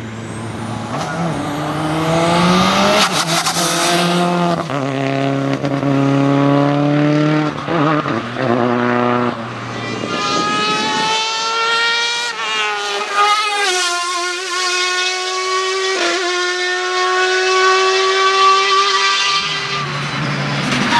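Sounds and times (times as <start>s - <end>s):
race car engine accelerating: 0.0s - 20.9s.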